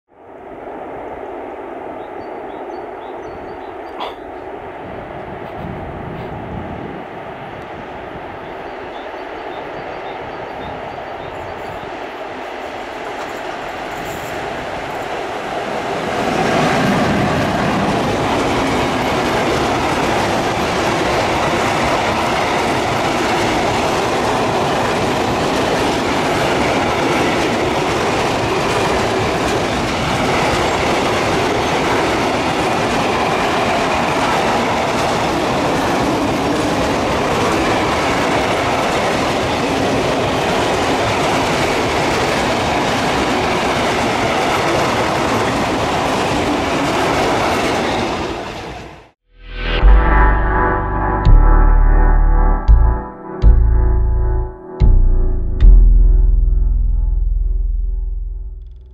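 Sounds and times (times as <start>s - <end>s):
freight train wheels on rails: 0.4s - 49.2s.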